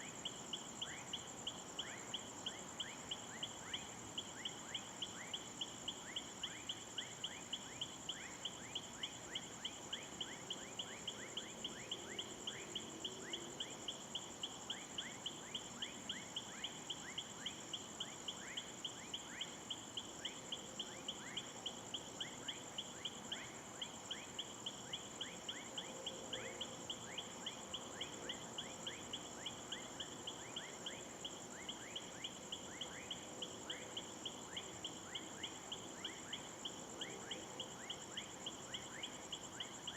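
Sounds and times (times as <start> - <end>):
continuous high insect buzz: 0.0 - 39.9
pulsing insect chirp: 0.0 - 39.9.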